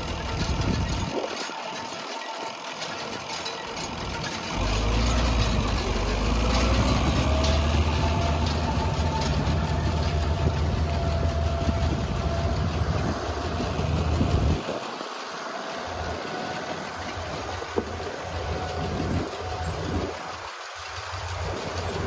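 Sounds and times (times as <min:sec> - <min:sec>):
tractor engine rumbling and whining: 0:00.0 - 0:22.0.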